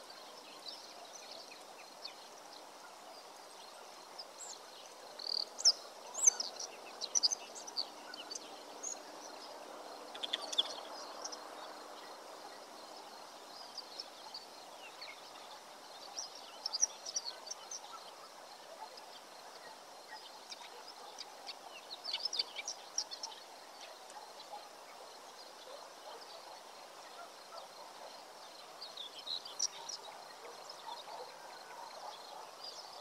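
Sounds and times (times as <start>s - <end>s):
small birds chirping: 0.0s - 33.0s
steady outdoor background hiss: 0.0s - 33.0s.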